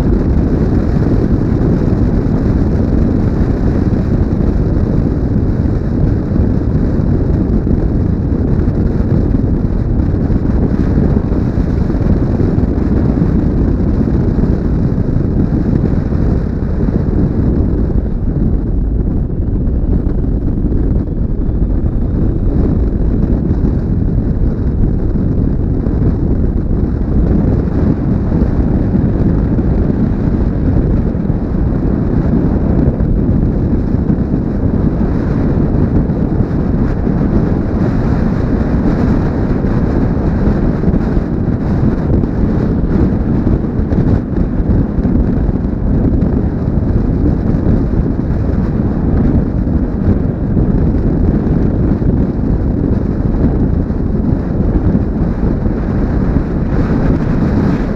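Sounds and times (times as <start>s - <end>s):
road noise: 0.0s - 47.6s
motorcycle engine running: 0.0s - 57.9s
wind buffeting microphone: 0.0s - 57.9s.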